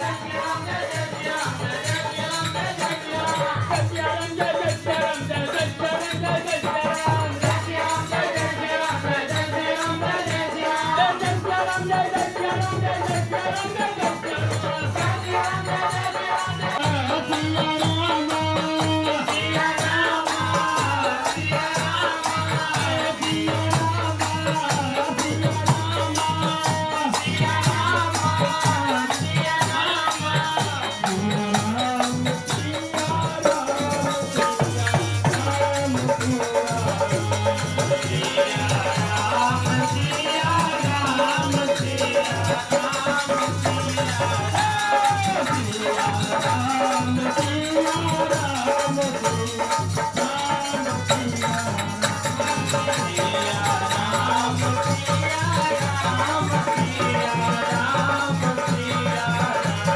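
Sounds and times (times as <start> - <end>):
harmonium: 0.0 - 59.9
man singing into a microphone: 0.0 - 59.9.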